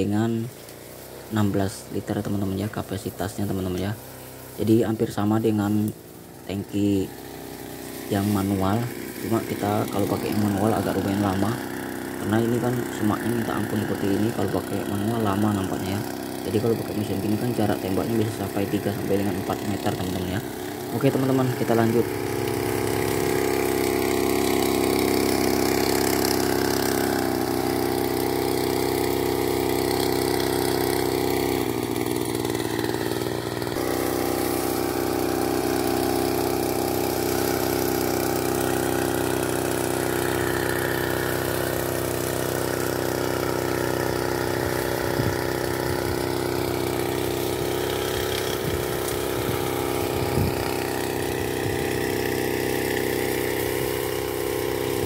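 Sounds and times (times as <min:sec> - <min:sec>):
sprayer engine running: 0:00.0 - 0:55.0.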